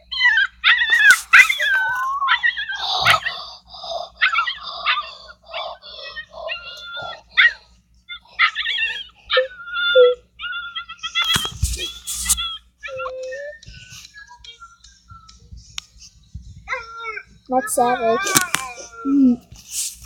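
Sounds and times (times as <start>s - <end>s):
dog yipping and whimpering: 0.0s - 3.4s, 4.2s - 14.6s, 16.7s - 19.1s.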